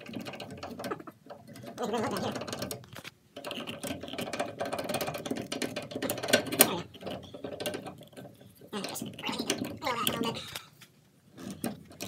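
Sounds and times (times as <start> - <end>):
metal parts clicking and rattling: 0.0 - 10.7, 11.3 - 12.0.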